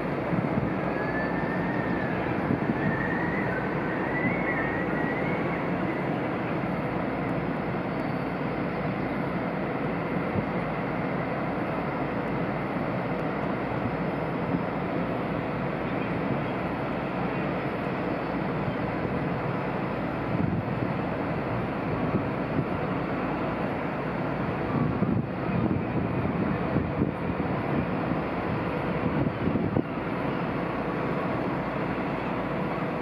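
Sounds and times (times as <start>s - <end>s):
churned water rushing: 0.0s - 33.0s.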